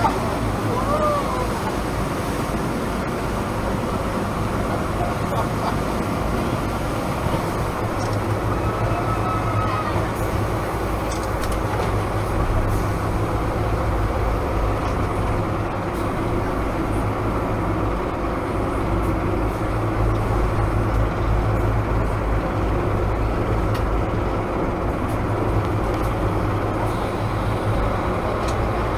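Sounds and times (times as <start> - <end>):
boat engines droning: 0.0 - 28.9
rushing water: 0.0 - 28.9.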